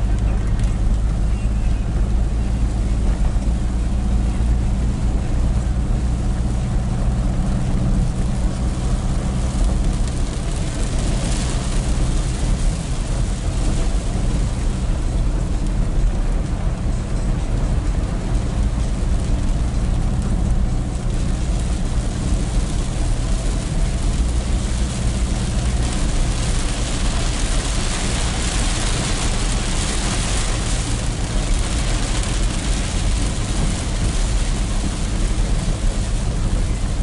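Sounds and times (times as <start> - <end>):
engine and road rumble: 0.0 - 37.0
rain hissing on windshield: 0.0 - 37.0.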